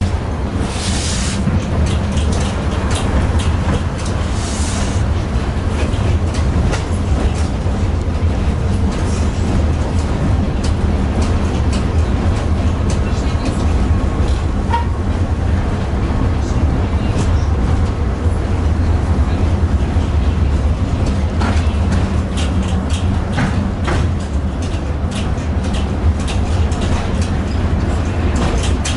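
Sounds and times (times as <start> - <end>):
tram rumbling on rails: 0.0 - 28.9.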